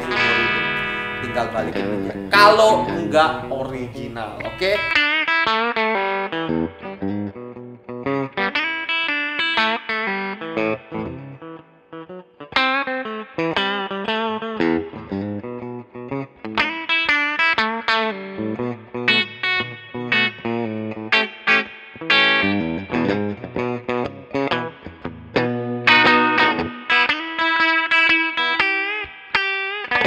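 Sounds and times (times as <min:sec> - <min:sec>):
electric guitar through amplifier: 0:00.0 - 0:30.0.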